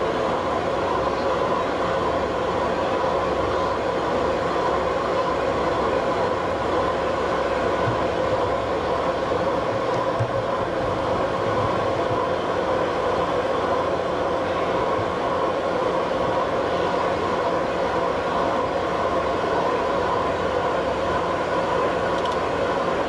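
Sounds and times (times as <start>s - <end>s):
boring mill droning: 0.0s - 23.0s.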